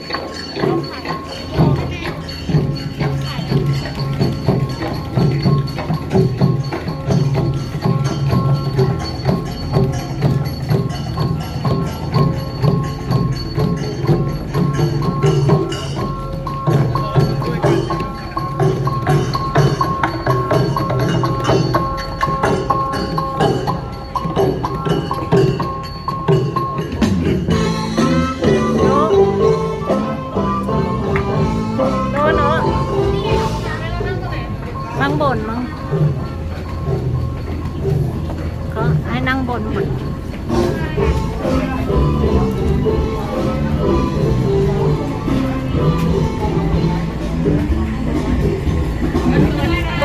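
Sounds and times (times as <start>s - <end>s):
bell-like tones: 0.0s - 50.0s
percussive beat: 0.0s - 50.0s.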